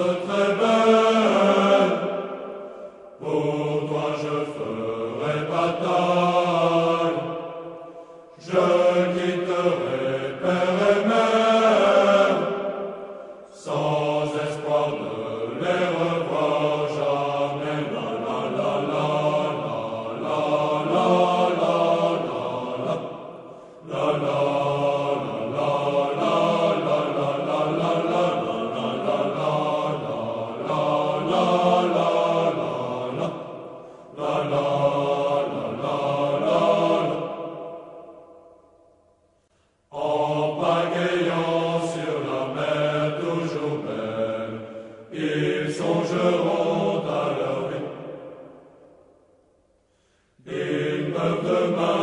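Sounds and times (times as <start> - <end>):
voices singing slow chant: 0.0 - 52.0.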